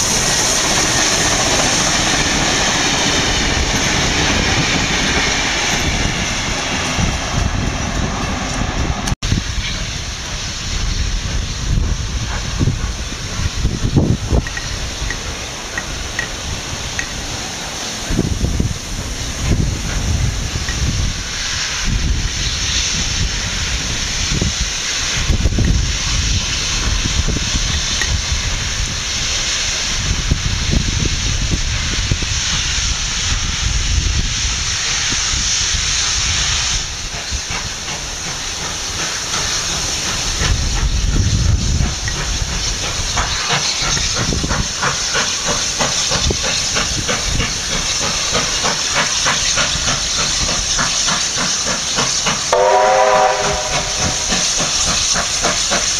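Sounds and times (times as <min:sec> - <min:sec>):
steam hissing from locomotive: 0:00.0 - 0:55.9
steam locomotive chuffing beat: 0:00.0 - 0:55.9.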